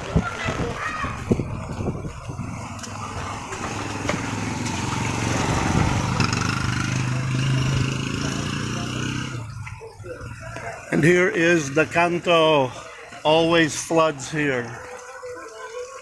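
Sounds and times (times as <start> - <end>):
vehicle engine humming: 1.2 - 16.0.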